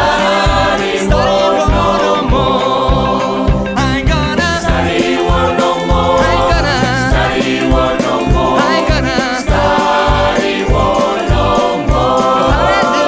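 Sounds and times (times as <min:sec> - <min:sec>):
band bass and drums beat: 0:00.0 - 0:13.0
gospel choir singing: 0:00.0 - 0:13.0.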